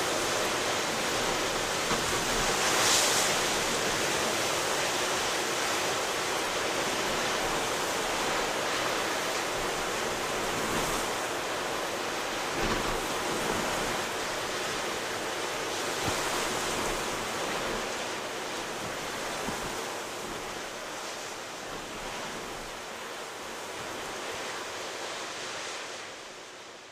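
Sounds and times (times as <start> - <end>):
ocean surf breaking: 0.0 - 26.7.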